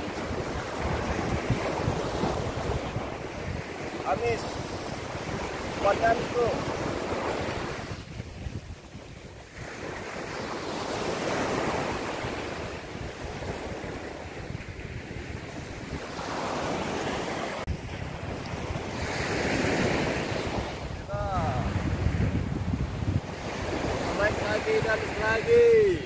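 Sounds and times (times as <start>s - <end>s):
waves breaking on beach: 0.0s - 26.0s
wind on microphone: 0.0s - 26.0s.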